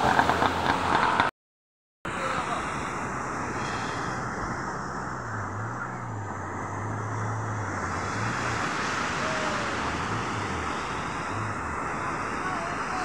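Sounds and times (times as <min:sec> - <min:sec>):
outboard motor droning: 0:02.1 - 0:13.0
waves breaking on beach: 0:02.1 - 0:13.0.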